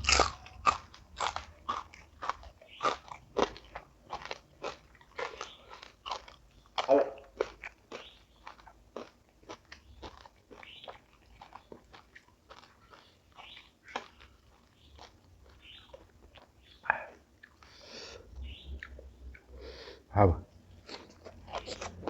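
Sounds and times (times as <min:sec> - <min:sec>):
person chewing crisp food: 0:00.0 - 0:20.0, 0:20.7 - 0:22.0.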